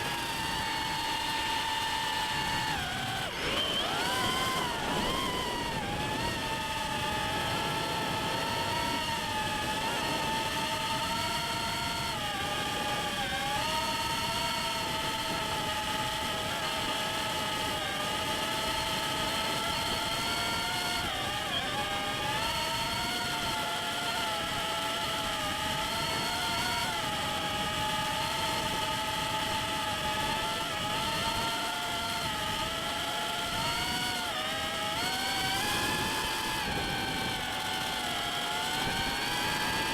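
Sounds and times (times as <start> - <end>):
drone motors and propellers whining: 0.0 - 39.9.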